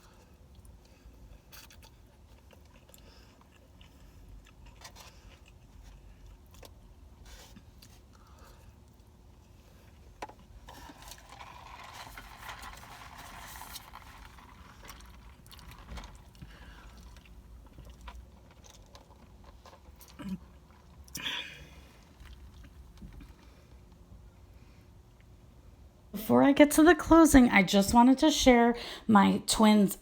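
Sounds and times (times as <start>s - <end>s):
rustling of food packaging: 0.0s - 24.8s
soft chewing: 0.0s - 25.4s.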